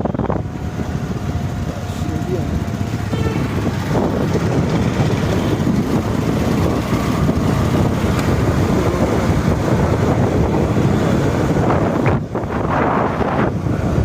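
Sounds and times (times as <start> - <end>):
road and traffic rumble: 0.0 - 14.0
wind buffeting microphone: 0.0 - 14.0.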